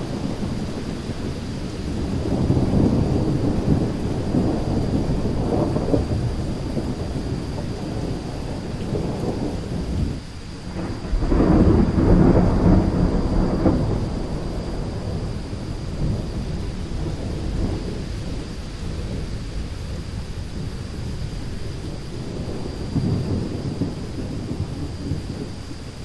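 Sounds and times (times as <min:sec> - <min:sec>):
rain: 0:00.0 - 0:26.0
rolling thunder: 0:00.0 - 0:26.0.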